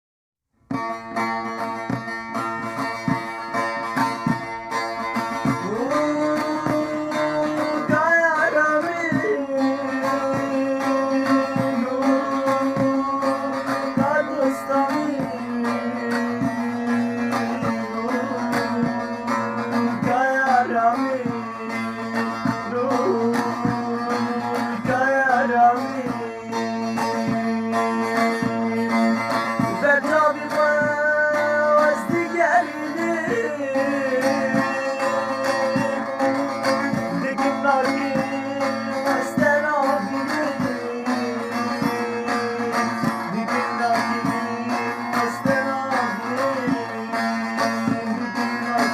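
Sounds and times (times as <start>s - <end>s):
plucked string instrument: 0.6s - 48.9s
person singing: 5.2s - 48.9s.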